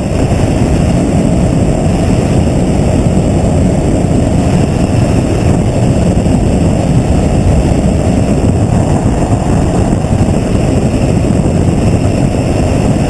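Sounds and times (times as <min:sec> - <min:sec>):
gyrocopter engine and rotor noise: 0:00.0 - 0:13.0
wind on microphone: 0:00.0 - 0:13.0.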